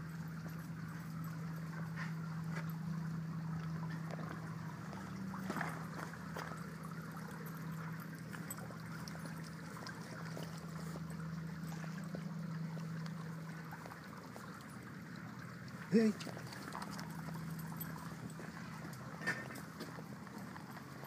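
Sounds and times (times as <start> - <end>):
pool water trickling: 0.0 - 21.0
steady low hum: 0.0 - 21.0.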